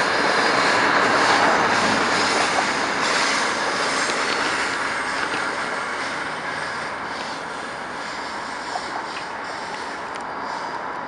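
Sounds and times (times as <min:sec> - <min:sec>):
train cars rolling on rails: 0:00.0 - 0:11.0.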